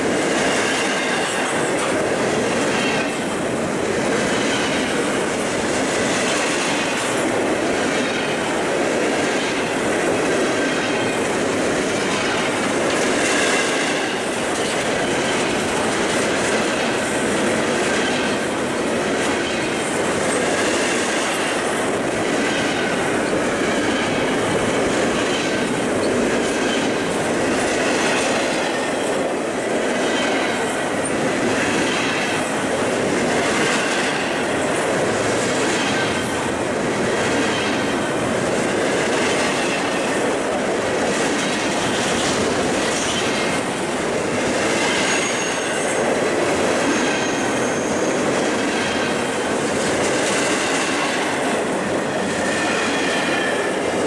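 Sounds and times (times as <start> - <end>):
train wheels clicking over joints: 0.0 - 54.0.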